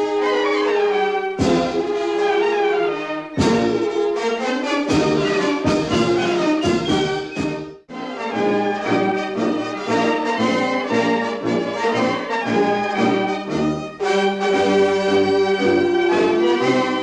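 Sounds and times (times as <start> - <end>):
brass instrumental music: 0.0 - 17.0.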